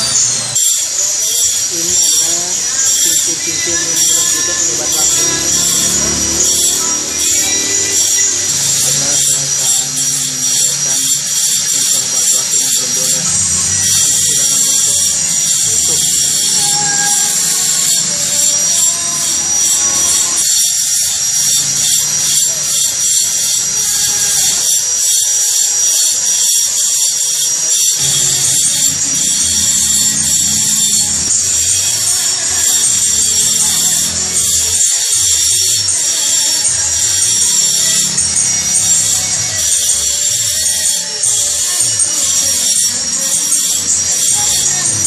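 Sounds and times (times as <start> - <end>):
power tool whining: 0.0 - 45.0.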